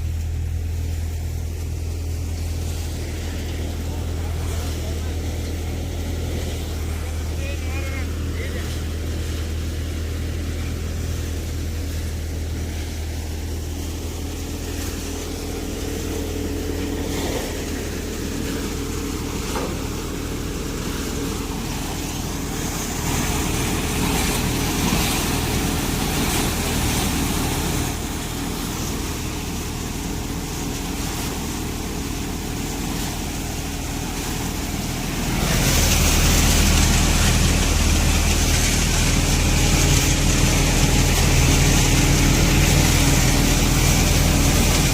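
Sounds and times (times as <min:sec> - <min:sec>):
thresher whirring: 0:00.0 - 0:44.9
tractor diesel engine running: 0:00.0 - 0:44.9.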